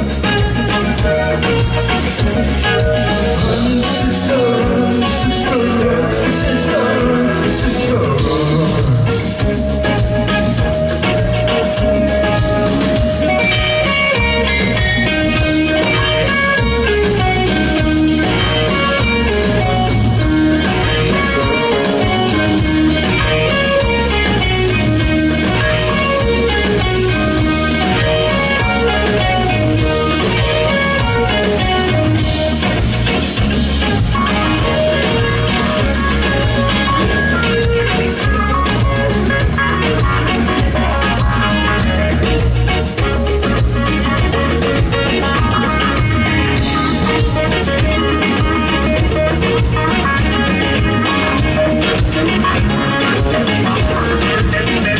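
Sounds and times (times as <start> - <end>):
live rock band instrumental: 0.0 - 54.9.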